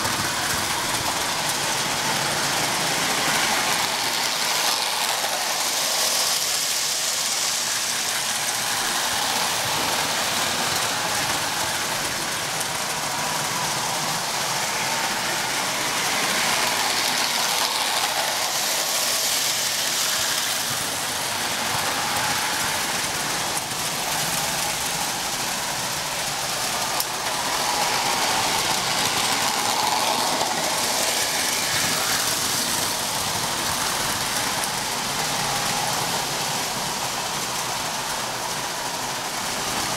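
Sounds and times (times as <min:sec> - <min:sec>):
toy trains rattling on track: 0:00.0 - 0:39.9.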